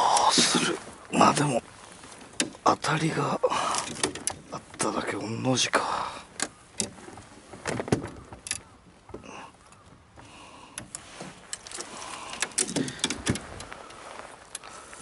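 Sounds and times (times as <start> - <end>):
fishing rods clattering against hull: 0.0 - 15.0.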